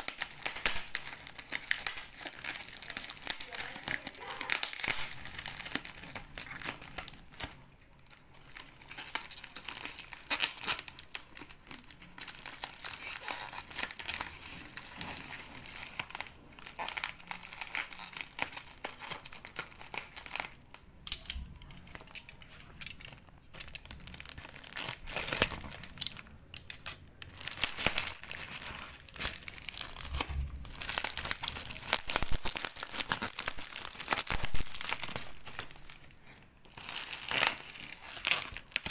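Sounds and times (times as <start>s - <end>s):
bubble wrap crinkling: 0.0s - 38.9s.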